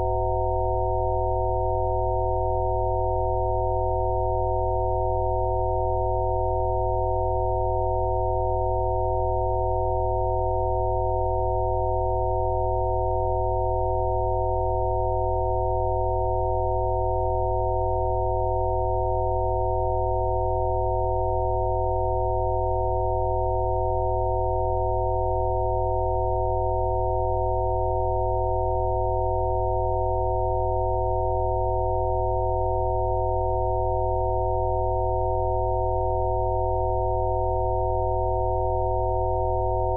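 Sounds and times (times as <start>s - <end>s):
electronic sine tones: 0.0s - 39.9s.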